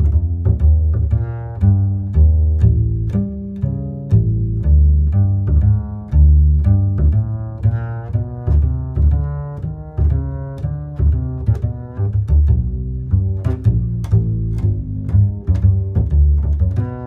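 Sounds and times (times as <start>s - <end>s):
low plucked and bowed strings: 0.0s - 17.0s.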